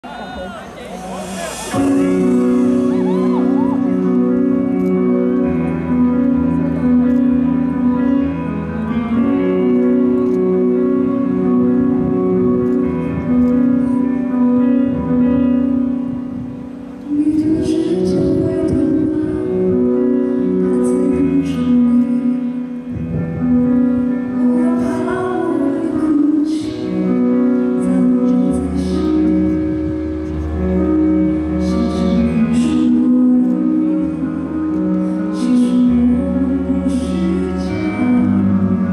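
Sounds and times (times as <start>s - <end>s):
person singing: 0.0s - 12.3s, 17.0s - 30.0s, 30.6s - 38.9s
pop song with synth chords: 0.1s - 38.9s.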